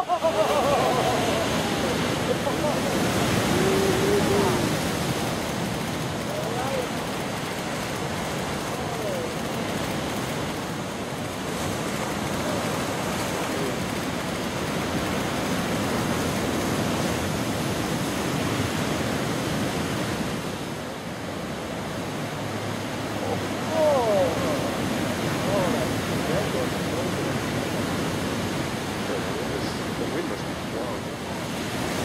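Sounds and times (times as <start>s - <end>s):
ocean waves breaking: 0.0s - 32.0s.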